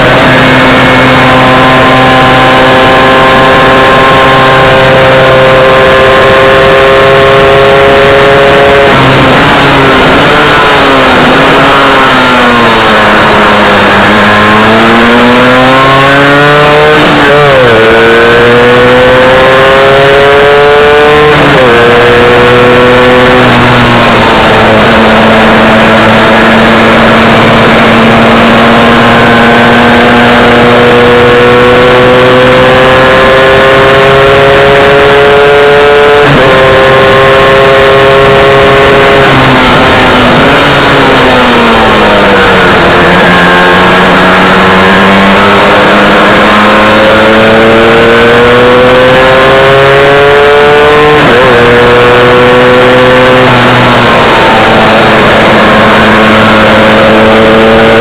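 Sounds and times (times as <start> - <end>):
two-stroke race engine accelerating: 0.0 - 58.0.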